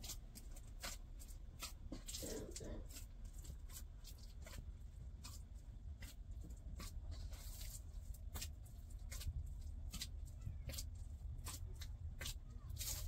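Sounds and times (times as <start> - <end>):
hands kneading dough in metal basin: 0.0 - 13.0
low steady rumble: 0.0 - 13.0.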